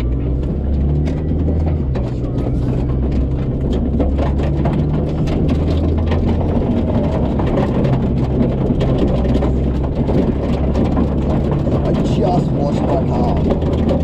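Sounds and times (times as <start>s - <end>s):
car engine running: 0.0s - 14.0s
small knocks: 0.0s - 14.0s.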